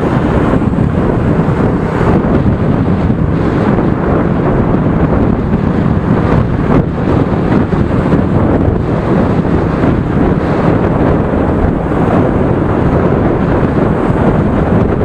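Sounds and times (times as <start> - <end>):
scooter traffic rumble: 0.0 - 15.0
wind buffeting microphone: 0.0 - 15.0.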